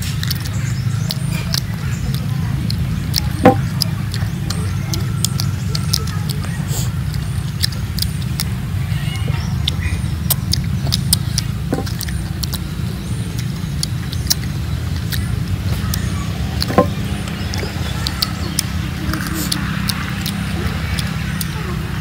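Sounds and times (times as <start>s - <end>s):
biting and chewing fruit: 0.0s - 22.0s.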